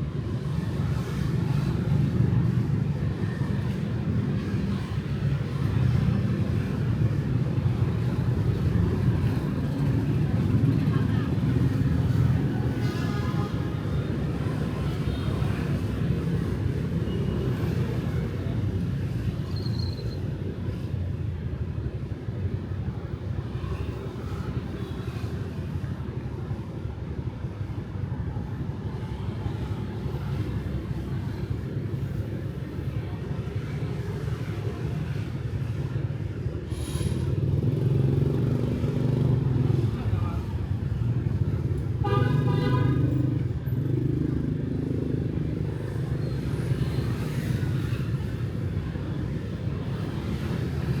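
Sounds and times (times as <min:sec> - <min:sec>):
street traffic rumble: 0:00.0 - 0:51.0.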